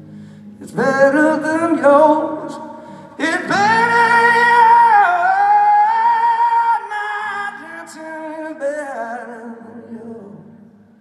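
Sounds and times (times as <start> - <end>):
person singing with vibrato: 0.4 - 11.0.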